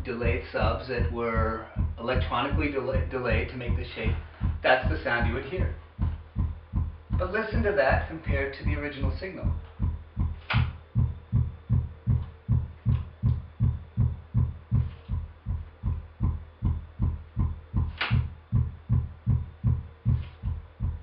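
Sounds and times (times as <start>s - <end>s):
low test pulse thumps: 0.0s - 21.0s.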